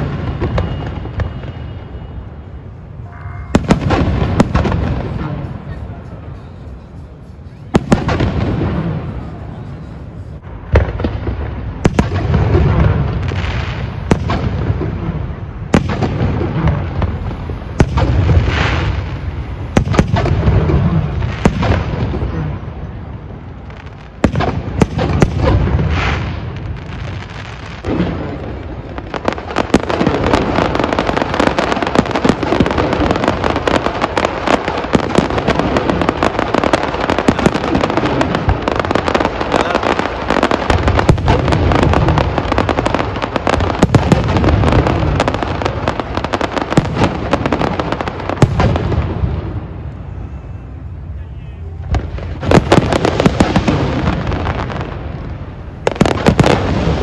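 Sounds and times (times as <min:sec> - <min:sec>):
dense crackling of small fireworks: 0:00.0 - 0:57.0
fireworks bangs and booms: 0:00.0 - 0:57.0.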